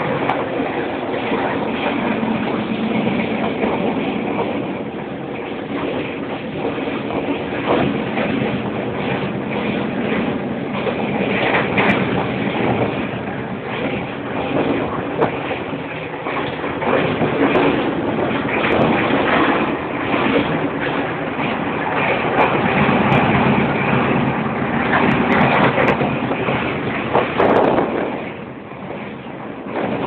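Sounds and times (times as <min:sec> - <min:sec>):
train carriage rumbling on rails: 0:00.0 - 0:30.0.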